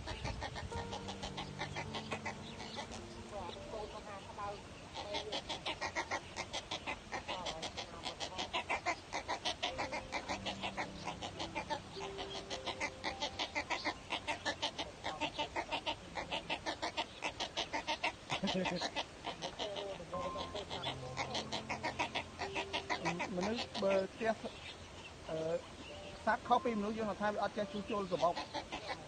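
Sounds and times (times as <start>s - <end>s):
bird nestlings chattering: 0.0s - 29.0s.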